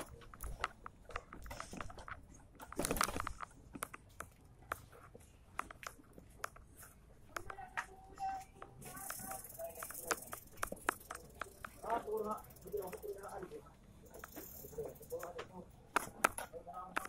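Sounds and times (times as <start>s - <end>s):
light clicks and taps: 0.0s - 17.0s.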